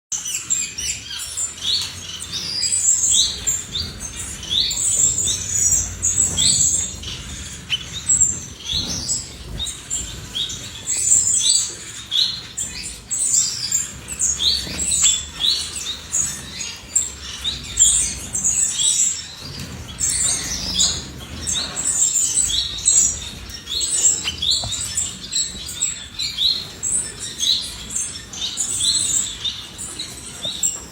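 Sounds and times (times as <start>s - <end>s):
finches chirping: 0.1s - 30.9s.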